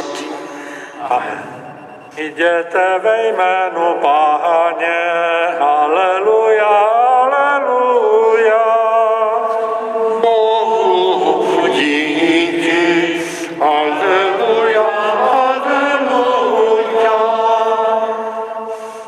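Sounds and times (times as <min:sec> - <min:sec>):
voices singing liturgical chant: 0:00.0 - 0:19.0.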